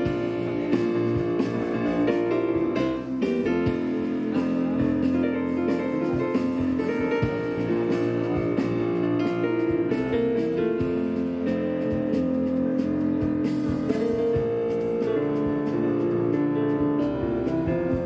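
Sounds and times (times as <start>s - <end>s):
drum kit: 0.0s - 18.0s
electric bass: 0.0s - 18.0s
piano: 0.0s - 18.0s.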